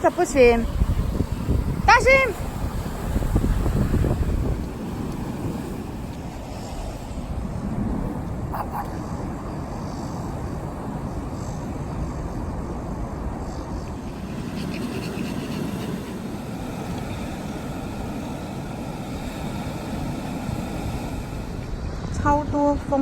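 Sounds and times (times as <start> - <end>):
wind on microphone: 0.0 - 23.0.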